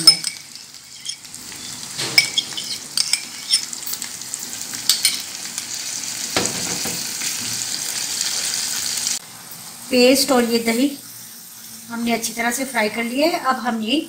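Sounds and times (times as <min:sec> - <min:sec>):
paste sizzling in hot oil: 0:00.0 - 0:12.8.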